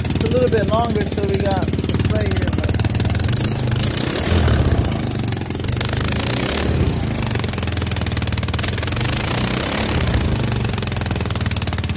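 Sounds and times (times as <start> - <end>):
scooter engine idling: 0.0 - 11.9.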